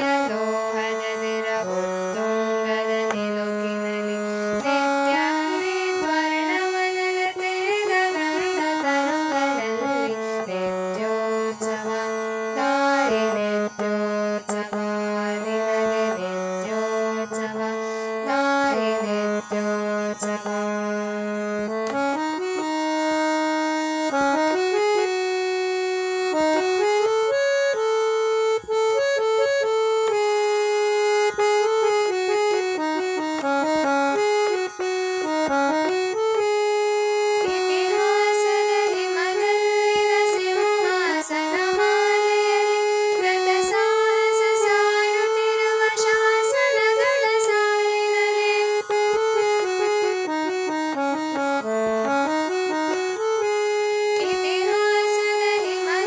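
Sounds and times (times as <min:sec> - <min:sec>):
instrumental melody: 0:00.0 - 0:56.0.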